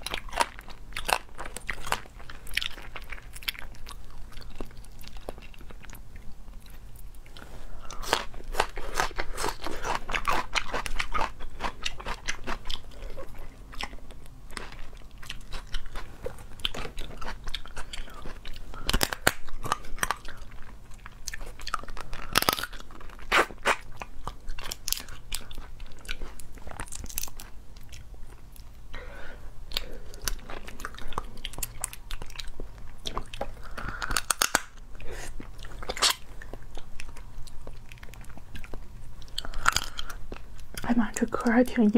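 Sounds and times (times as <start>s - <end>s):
crab shells crunching while chewing: 0.0s - 29.1s, 29.7s - 41.0s.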